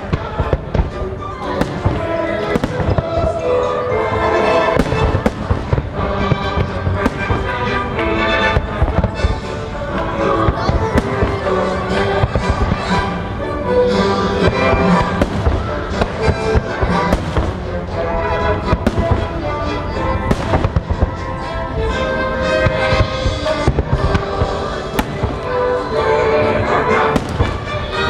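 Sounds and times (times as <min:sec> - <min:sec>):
fireworks bangs and crackles: 0:00.0 - 0:28.0
loud music soundtrack: 0:00.0 - 0:28.0.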